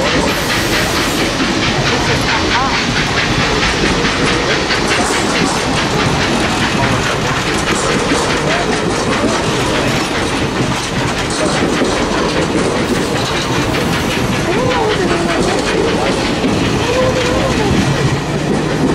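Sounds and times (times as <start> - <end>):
train rolling rush: 0.0 - 18.9
train wheels clicking over rail joints: 0.0 - 18.9.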